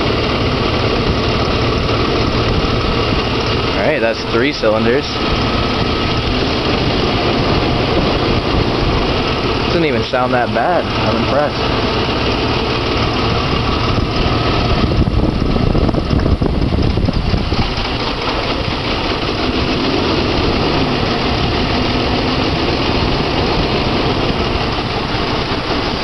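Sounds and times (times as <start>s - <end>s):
misfiring engine idling: 0.0s - 26.0s.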